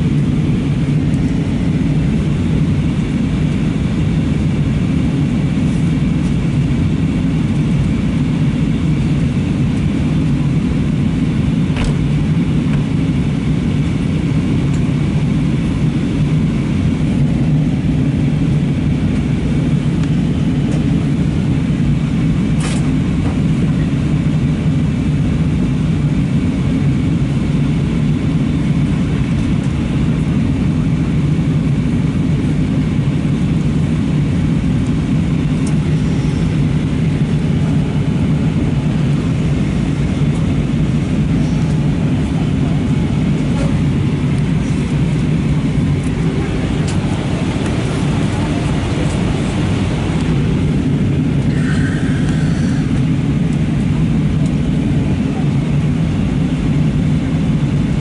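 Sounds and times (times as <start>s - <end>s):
airflow over fuselage: 0.0s - 58.0s
jet engines droning: 0.0s - 58.0s.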